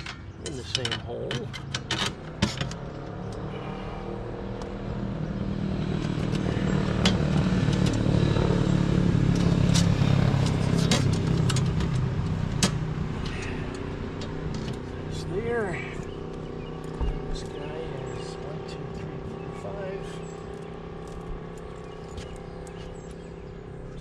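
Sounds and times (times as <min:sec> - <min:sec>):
vehicle engine passing by: 0:02.7 - 0:24.0.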